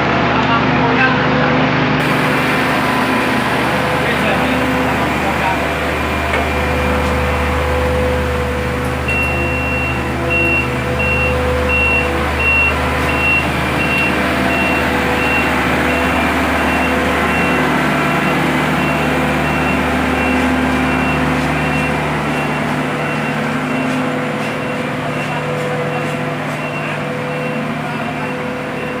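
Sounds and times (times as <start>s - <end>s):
machine engines humming: 0.0s - 29.0s
reversing alarm beeping: 2.0s - 29.0s.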